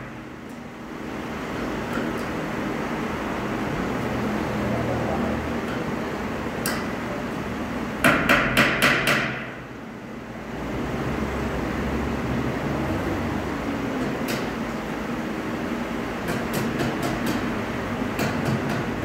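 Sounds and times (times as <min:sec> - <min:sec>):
workshop hum: 0:00.0 - 0:19.0.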